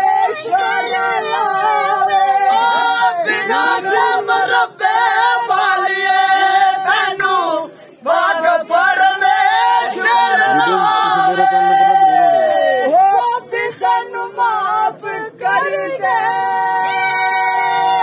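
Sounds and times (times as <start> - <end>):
men singing folk song: 0.0 - 18.0.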